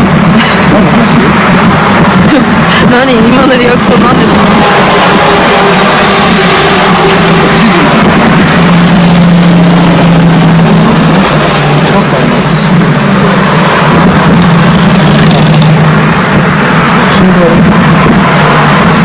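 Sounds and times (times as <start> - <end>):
road traffic noise: 0.0 - 19.0
vehicle engine hum: 0.0 - 19.0.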